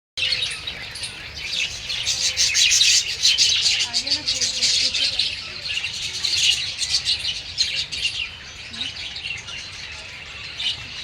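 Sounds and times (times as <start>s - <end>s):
small birds chirping and chattering: 0.2s - 11.0s.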